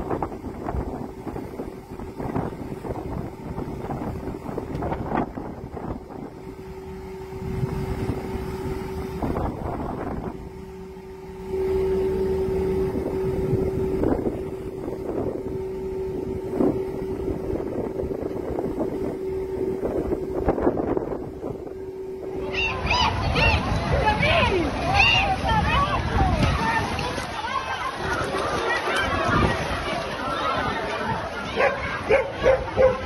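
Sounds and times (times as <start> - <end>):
low rumble: 0.0 - 30.3
boat motor humming: 0.0 - 33.0
wind buffeting microphone: 0.0 - 33.0.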